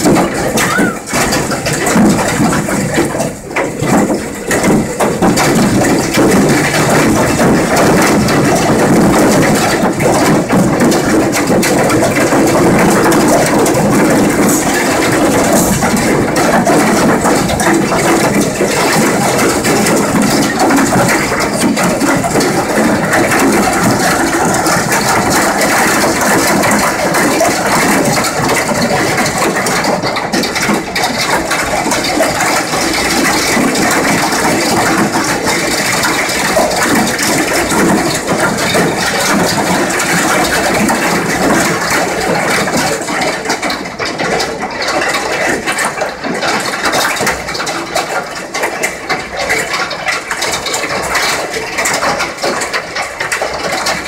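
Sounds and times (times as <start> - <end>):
hail clattering on glass windows: 0.0 - 54.0.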